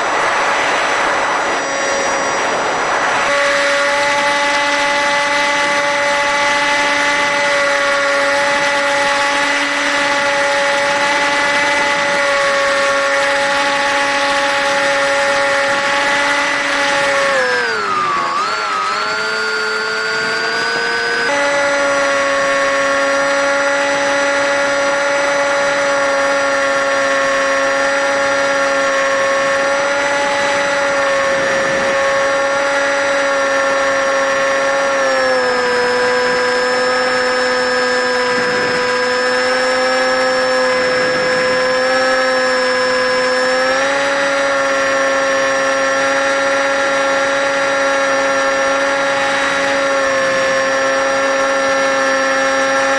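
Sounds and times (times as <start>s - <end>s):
model plane motor whine: 0.0s - 52.9s.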